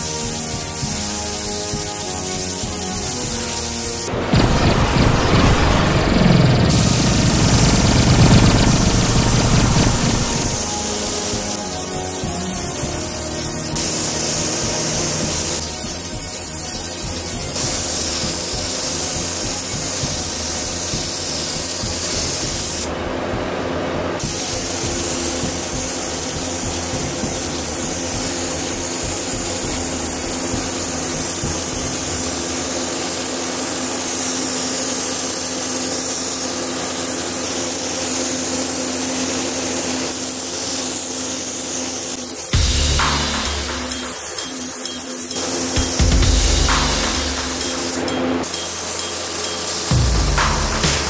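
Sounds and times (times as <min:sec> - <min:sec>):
air spray gun hissing: 0:00.0 - 0:22.9, 0:24.2 - 0:51.0.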